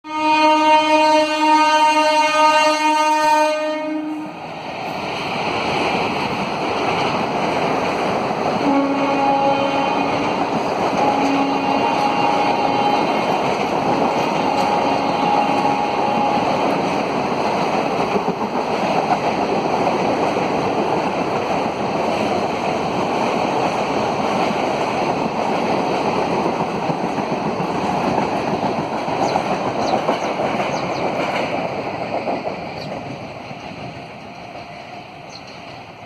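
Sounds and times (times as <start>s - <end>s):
train wheel and coach noise: 0.1s - 36.0s.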